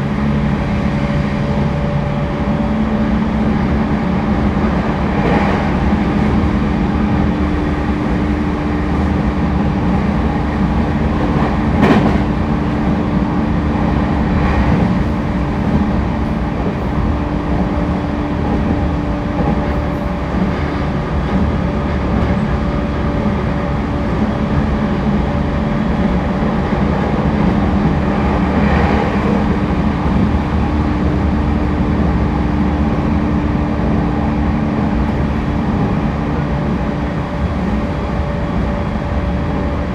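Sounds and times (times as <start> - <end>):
steady train hum: 0.0 - 39.9
train wheels rumbling on rail: 0.0 - 39.9.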